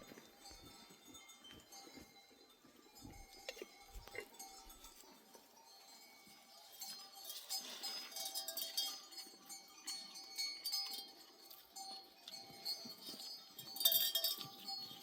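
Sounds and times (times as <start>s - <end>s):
sheep bells clinking: 0.0s - 15.0s.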